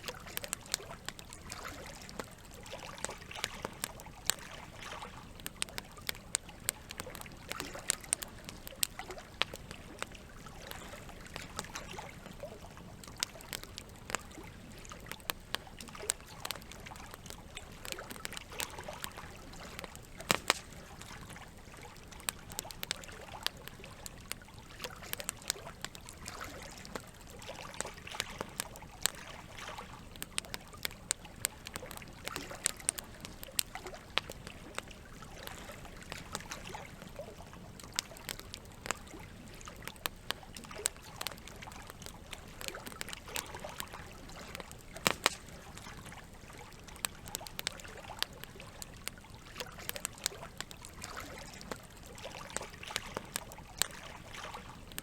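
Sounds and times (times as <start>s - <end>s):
campfire crackling and popping: 0.0s - 55.0s
flowing water: 0.0s - 55.0s.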